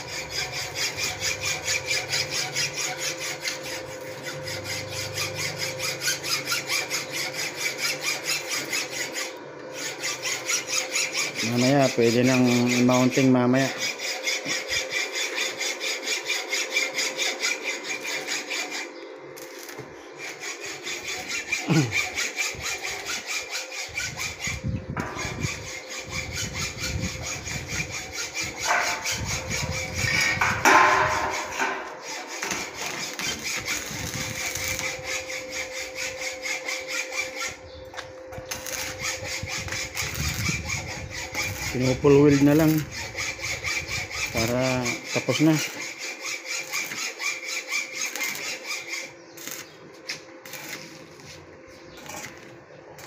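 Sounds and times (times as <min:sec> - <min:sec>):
welding arc crackling: 0:00.0 - 0:23.6, 0:25.2 - 0:37.6, 0:38.4 - 0:53.0.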